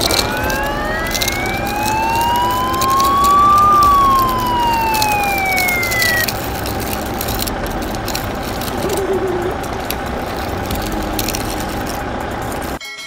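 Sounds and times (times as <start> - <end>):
electronic siren wail: 0.0 - 11.8
toy wheels rolling on concrete: 0.0 - 12.8.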